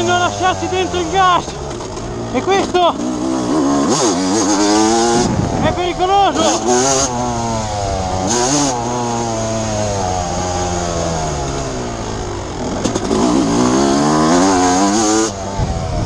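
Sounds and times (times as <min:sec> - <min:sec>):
motocross engine revving: 0:00.0 - 0:16.0.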